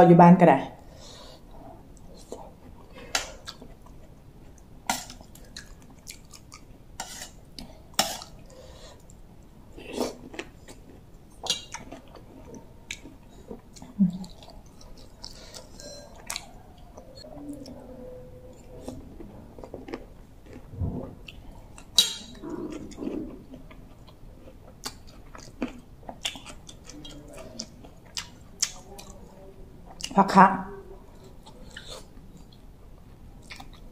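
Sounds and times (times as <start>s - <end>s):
person chewing: 1.1s - 17.8s, 18.5s - 29.3s, 31.1s - 33.9s.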